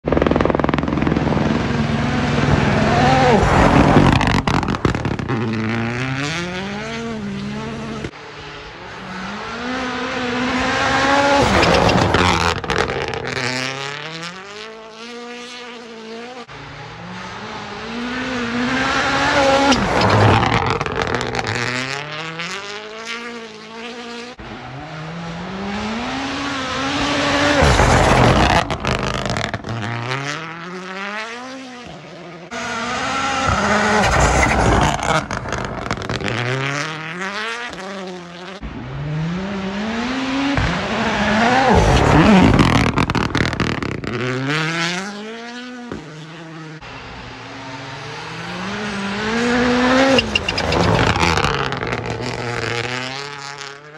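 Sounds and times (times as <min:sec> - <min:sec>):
race car engines accelerating past: 0:00.1 - 0:53.9.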